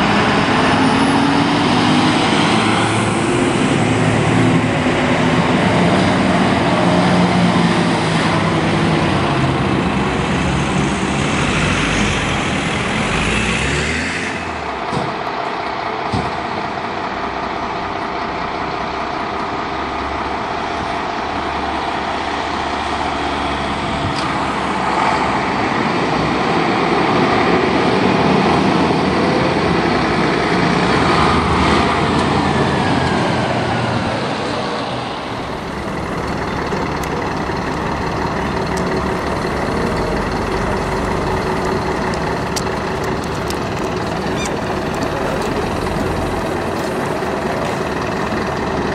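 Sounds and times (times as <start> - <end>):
diesel truck engine accelerating: 0.0 - 48.9
diesel truck engine running steadily: 0.0 - 48.9.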